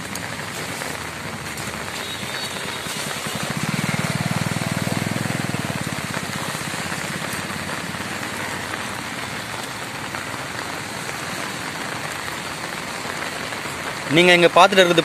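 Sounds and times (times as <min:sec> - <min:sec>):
heavy rain on flooded road: 0:00.0 - 0:15.0.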